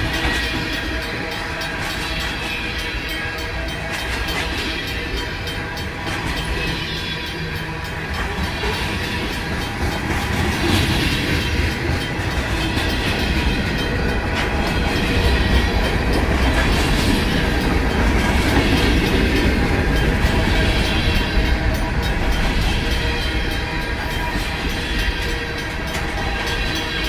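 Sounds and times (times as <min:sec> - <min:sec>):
crossing bell ringing: 0:00.0 - 0:27.0
freight train rumbling past: 0:00.0 - 0:27.0.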